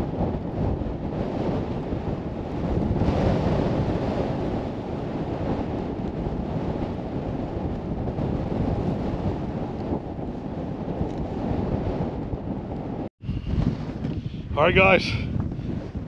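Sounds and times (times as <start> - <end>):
blizzard wind buffeting microphone: 0.0 - 16.0.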